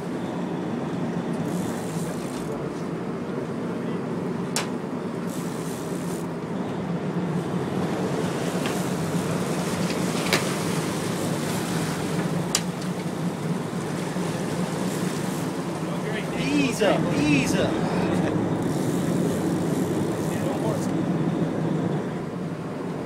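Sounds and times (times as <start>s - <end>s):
boat engine droning: 0.0s - 23.0s
churning whitewater: 0.0s - 23.0s.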